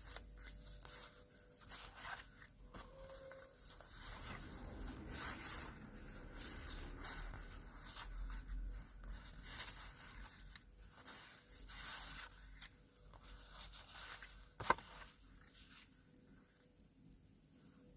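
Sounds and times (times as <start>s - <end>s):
sticker paper peeling swishes: 0.0s - 15.8s.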